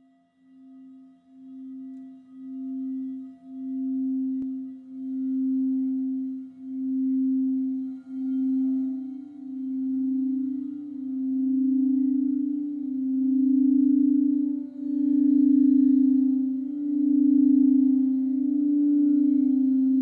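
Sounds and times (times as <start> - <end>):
higher singing bowl tone: 0.0 - 20.0
singing bowl low tone: 0.0 - 20.0.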